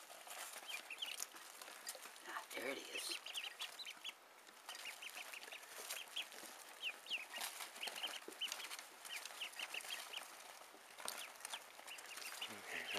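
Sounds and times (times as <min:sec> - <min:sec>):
ducklings peeping: 0:00.0 - 0:12.9.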